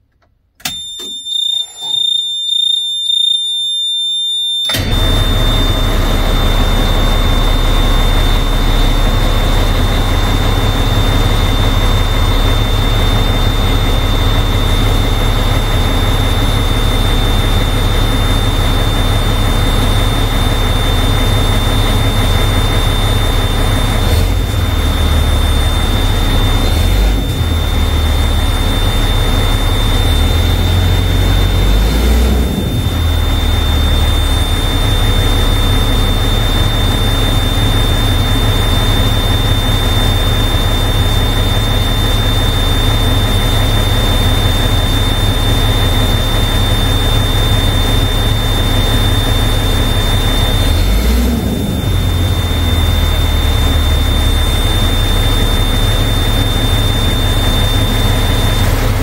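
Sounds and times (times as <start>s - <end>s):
warning beeper tone: 0.6s - 59.0s
diesel engine starting and running: 4.6s - 59.0s.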